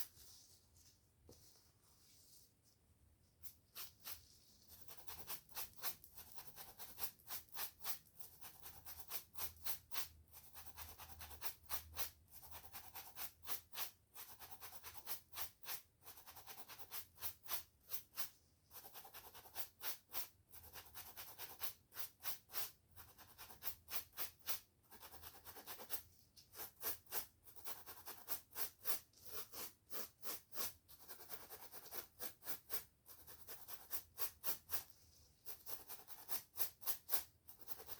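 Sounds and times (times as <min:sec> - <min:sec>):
scratchy strokes through hair: 0:00.0 - 0:10.1, 0:11.4 - 0:37.9.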